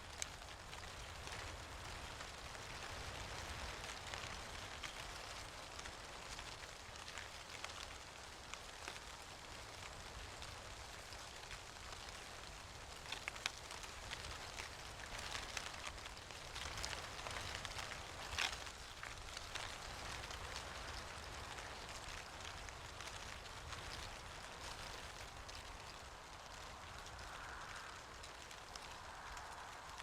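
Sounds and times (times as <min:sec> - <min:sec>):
leaves landing with light ticks: 0:00.0 - 0:30.0
leaves rustling: 0:00.0 - 0:30.0.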